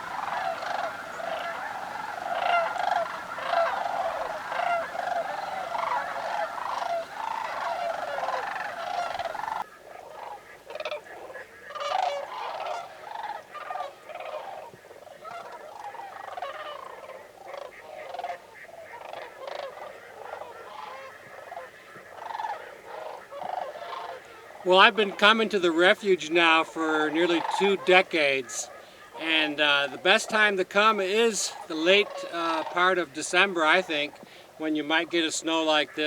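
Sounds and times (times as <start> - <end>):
cranes bugling in chorus: 0.0 - 36.0.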